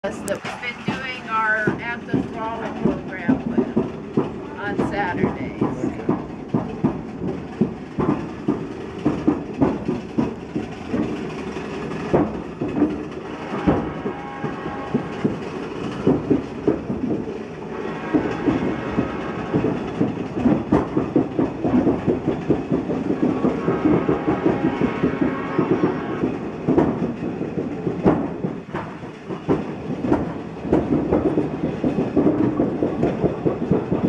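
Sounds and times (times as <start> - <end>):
steel bridge clanking and rattling: 0.0 - 34.0.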